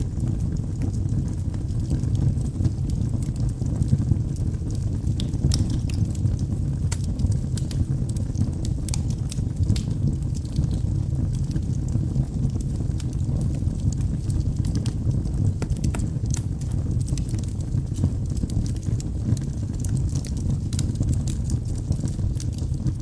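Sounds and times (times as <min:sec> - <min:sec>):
flames burning: 0:00.0 - 0:23.0
logs crackling and popping: 0:00.0 - 0:23.0.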